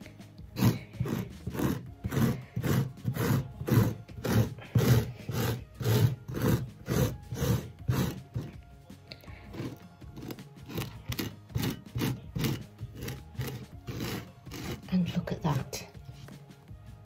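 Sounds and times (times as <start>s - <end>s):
pet-hair remover scraping carpet: 0.0s - 8.6s, 9.2s - 15.7s.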